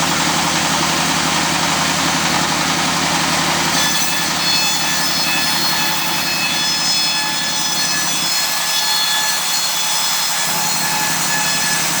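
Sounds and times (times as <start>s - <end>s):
circular saw whining: 1.1s - 12.0s.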